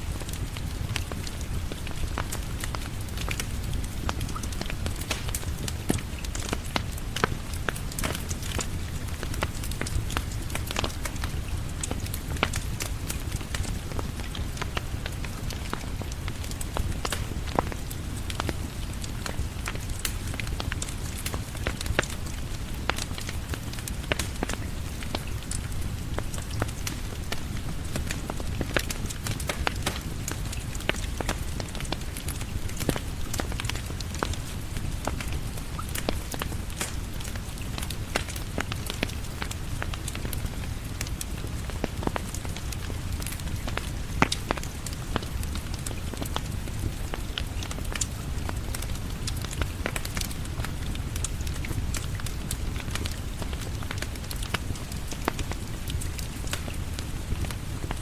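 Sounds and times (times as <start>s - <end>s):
fireplace crackling: 0.0s - 58.0s
steady rain: 0.0s - 58.0s.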